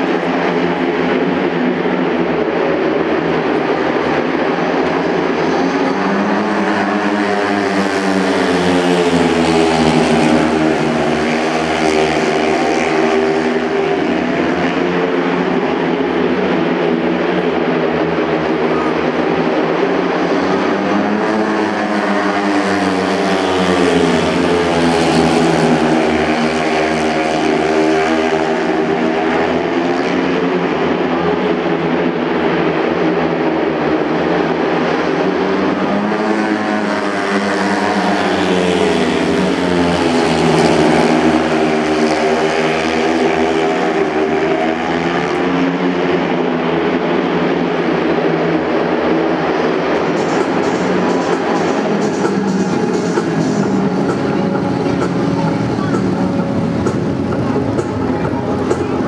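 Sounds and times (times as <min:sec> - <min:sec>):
motorcycles racing: 0:00.0 - 0:59.0.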